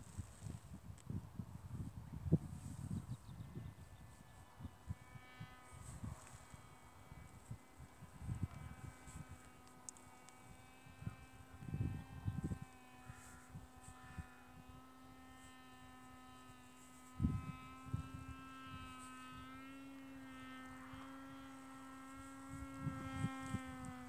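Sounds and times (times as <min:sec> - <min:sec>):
drone buzzing hum: 0:00.0 - 0:24.0
wind buffeting microphone: 0:00.0 - 0:24.0.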